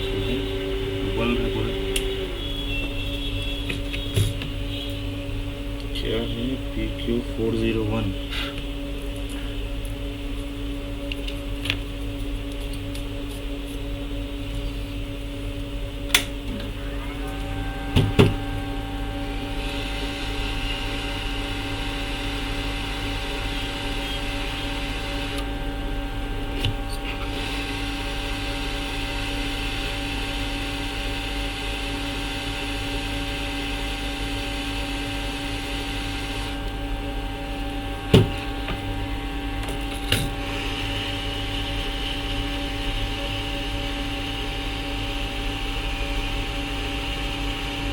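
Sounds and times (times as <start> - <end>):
electrical hum and whir: 0.0 - 47.9.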